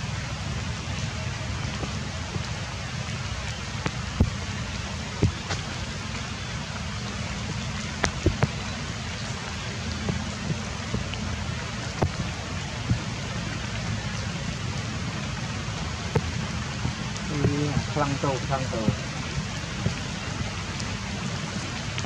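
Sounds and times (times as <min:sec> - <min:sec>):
light rain falling: 0:00.0 - 0:22.0
sharp water drips: 0:00.0 - 0:22.0.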